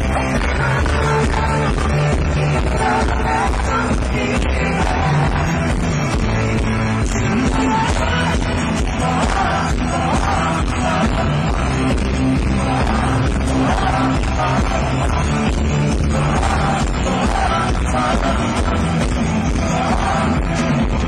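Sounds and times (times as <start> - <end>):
loud dance-pop music: 0.0 - 21.0.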